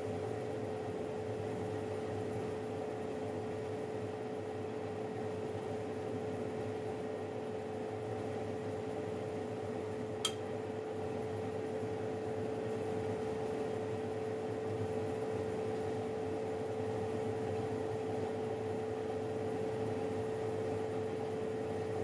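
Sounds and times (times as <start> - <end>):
oven fan whirring: 0.0 - 22.0.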